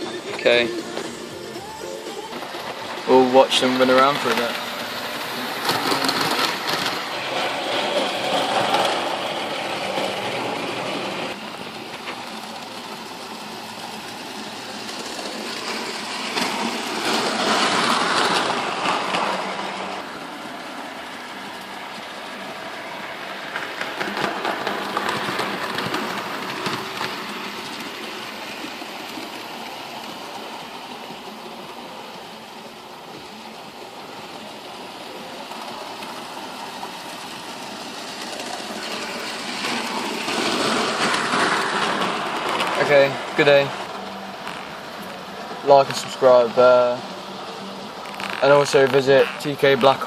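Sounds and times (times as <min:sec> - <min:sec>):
wheels clicking on rail: 0:00.0 - 0:50.0.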